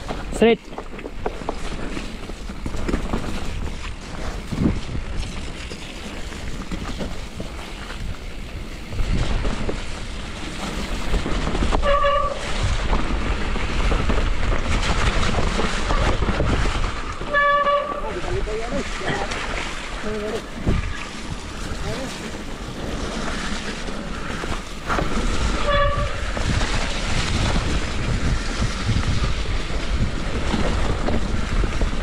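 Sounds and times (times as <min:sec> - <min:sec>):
bike rumbling and rattling: 0:00.0 - 0:32.0
wind buffeting microphone: 0:00.0 - 0:32.0.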